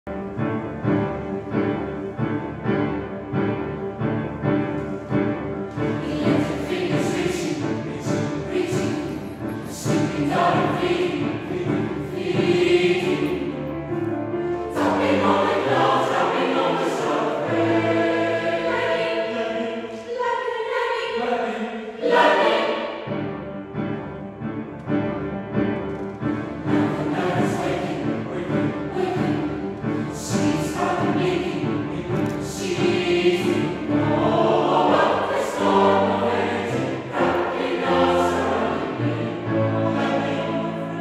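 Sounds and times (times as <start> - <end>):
piano accompaniment: 0.0 - 20.0, 22.0 - 41.0
choir singing: 0.2 - 24.2, 26.2 - 41.0.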